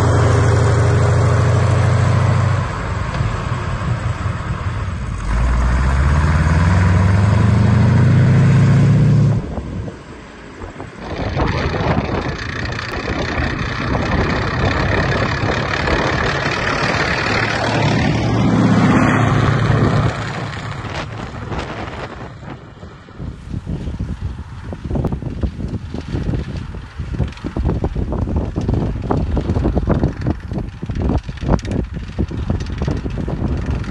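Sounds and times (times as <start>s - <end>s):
tracked vehicle engine running: 0.0s - 33.9s.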